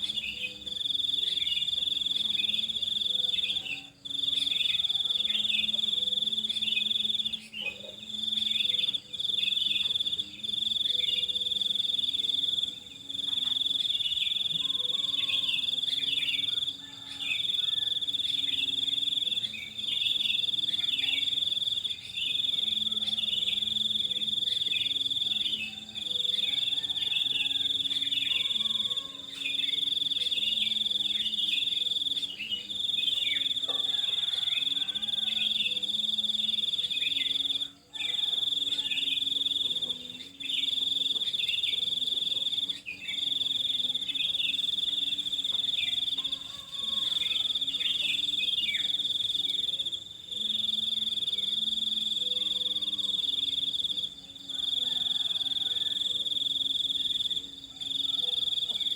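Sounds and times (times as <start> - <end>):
high-pitched insect trill: 0.0 - 58.9.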